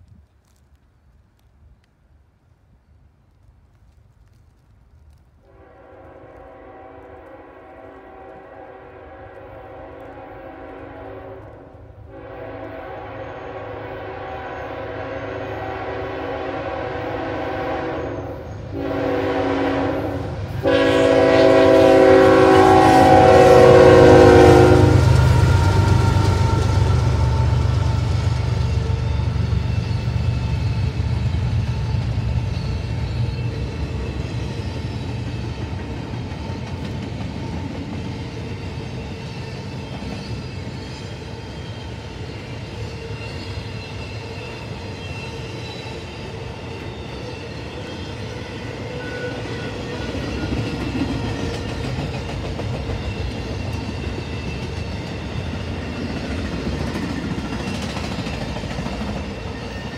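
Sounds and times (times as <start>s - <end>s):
freight train wheels rumbling: 4.2s - 59.9s.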